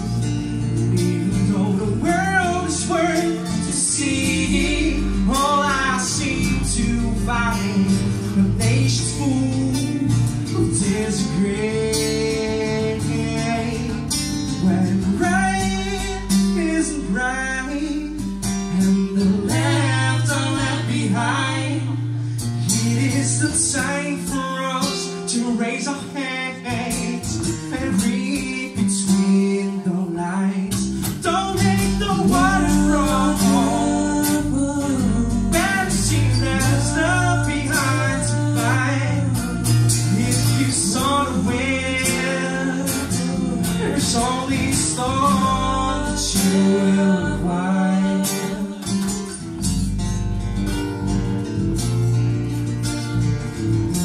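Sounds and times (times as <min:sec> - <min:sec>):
acoustic guitars strummed: 0:00.0 - 0:54.0
man and woman singing together: 0:00.6 - 0:49.2.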